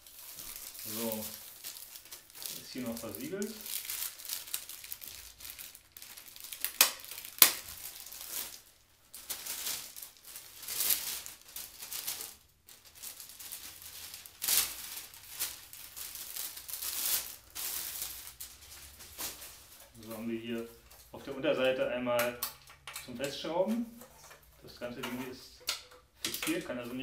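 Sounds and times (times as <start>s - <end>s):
plastic bag crinkling: 0.0s - 27.0s.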